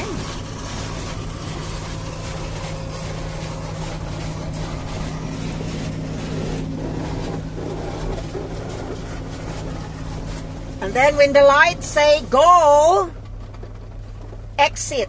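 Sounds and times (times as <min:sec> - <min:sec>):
water spray hitting car body: 0:00.0 - 0:12.7
low machinery hum: 0:00.0 - 0:15.0.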